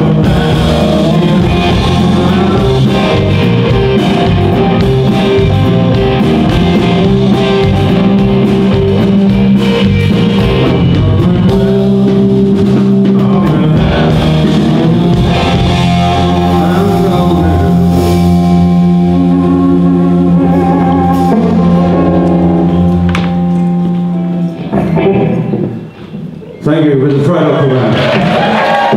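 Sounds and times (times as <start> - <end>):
live blues-rock band: 0.0 - 26.6.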